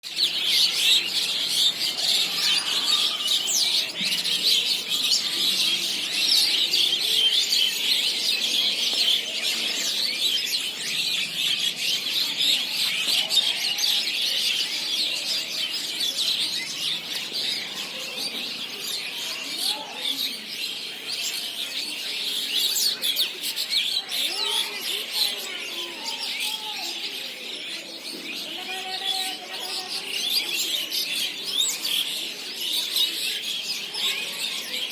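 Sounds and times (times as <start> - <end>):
flock of small birds chirping: 0.0 - 34.9.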